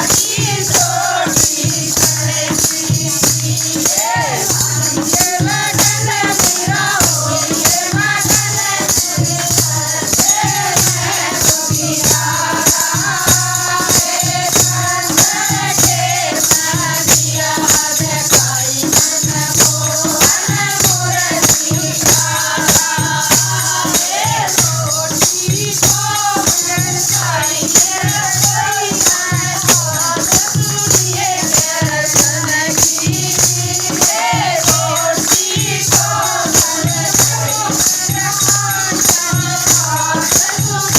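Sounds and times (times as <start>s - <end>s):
shaken and struck percussion beat: 0.0s - 40.9s
voices singing a melody: 0.0s - 40.9s.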